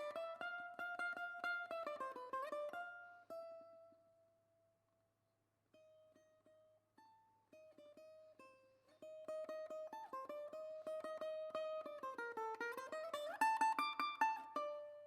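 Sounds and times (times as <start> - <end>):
plucked string melody: 0.0 - 4.2, 5.7 - 15.0.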